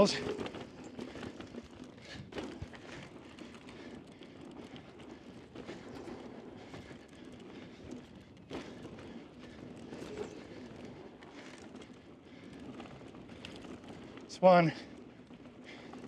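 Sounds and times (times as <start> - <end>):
bike knocking and rattling: 0.0 - 16.0
bike tyres rolling on dirt: 0.0 - 16.0.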